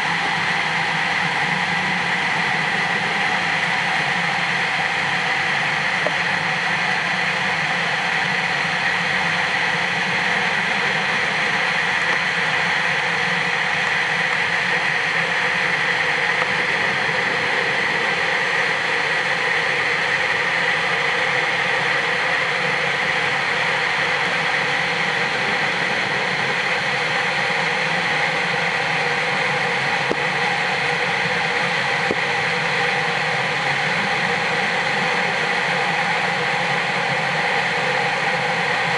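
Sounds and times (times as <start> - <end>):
underwater machine hum: 0.0 - 38.9.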